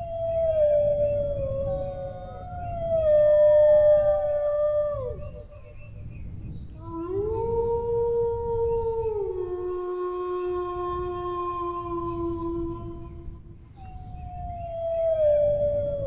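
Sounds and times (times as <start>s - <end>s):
dog howling: 0.0s - 5.8s, 6.8s - 16.0s.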